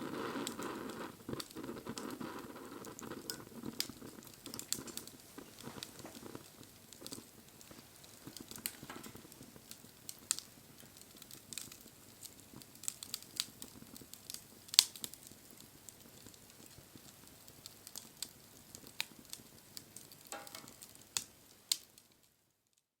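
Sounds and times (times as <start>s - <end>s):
faint hiss: 0.0s - 22.8s
wood fire crackling: 0.0s - 23.0s.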